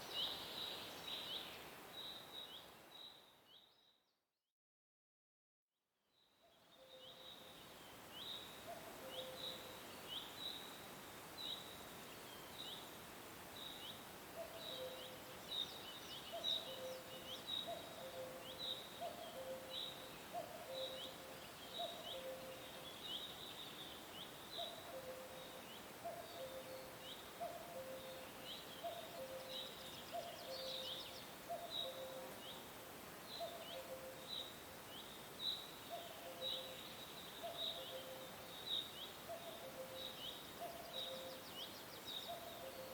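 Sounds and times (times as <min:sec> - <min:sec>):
faint steady hiss: 0:00.0 - 0:03.8, 0:06.1 - 0:42.9.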